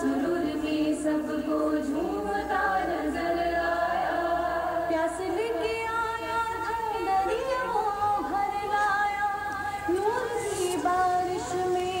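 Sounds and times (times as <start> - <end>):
woman singing devotional song: 0.0 - 12.0.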